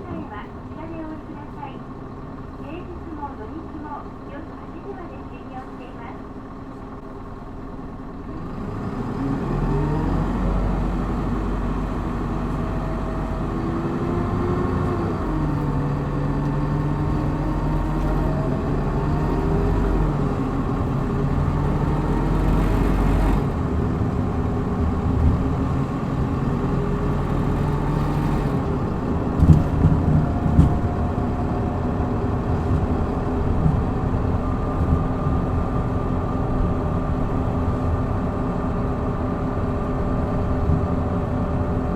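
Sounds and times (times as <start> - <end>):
bus diesel engine accelerating: 0.0 - 41.9.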